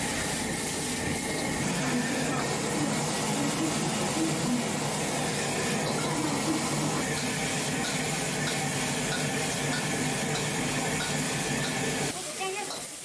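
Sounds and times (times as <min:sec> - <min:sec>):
busy kitchen hiss: 0:00.0 - 0:13.0.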